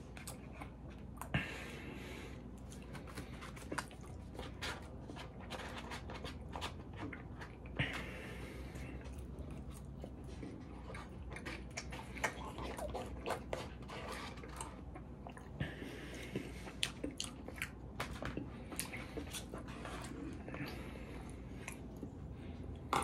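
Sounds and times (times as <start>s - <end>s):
close chewing and mouth sounds: 0.0s - 23.0s.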